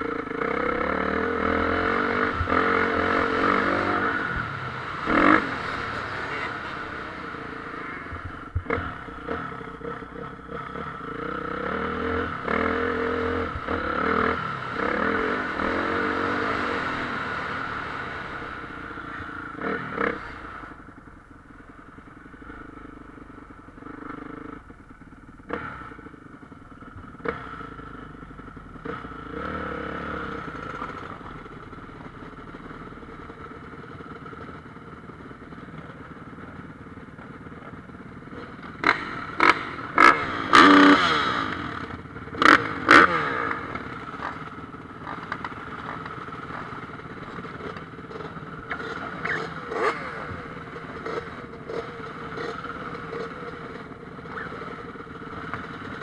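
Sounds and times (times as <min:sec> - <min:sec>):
motocross engines revving: 0:00.0 - 0:21.0, 0:25.4 - 0:31.6, 0:35.6 - 0:56.0.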